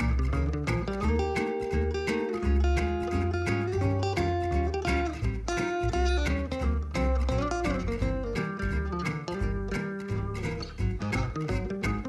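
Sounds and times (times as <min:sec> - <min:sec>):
bass line: 0:00.0 - 0:12.0
plucked guitar notes: 0:00.0 - 0:12.0.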